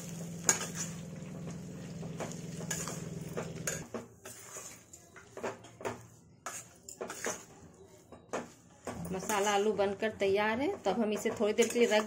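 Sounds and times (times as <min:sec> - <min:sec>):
metal spatula scraping a pan: 0:00.2 - 0:10.1, 0:10.8 - 0:12.0.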